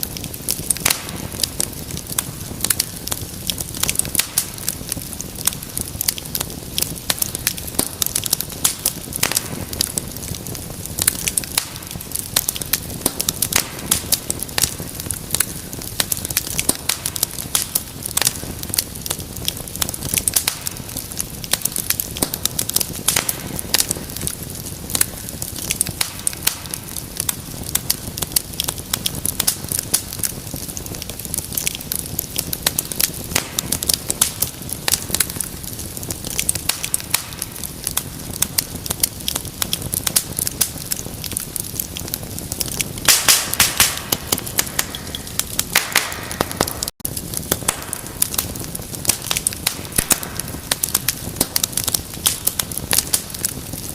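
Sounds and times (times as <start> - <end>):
low hiss of flame: 0.0 - 53.9
wood fire crackling and popping: 0.0 - 53.9.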